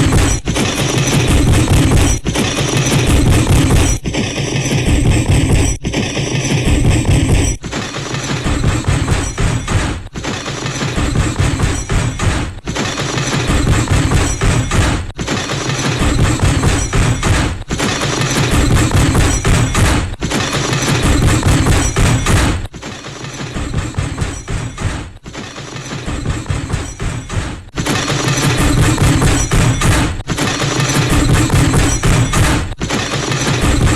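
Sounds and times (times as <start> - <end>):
cartoon crash clatter: 0.0 - 33.9.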